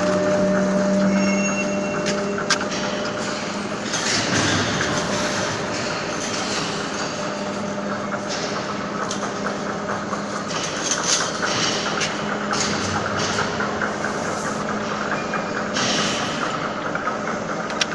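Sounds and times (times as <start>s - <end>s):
lathe humming: 0.0s - 17.9s
rattling and clicking: 2.0s - 17.9s.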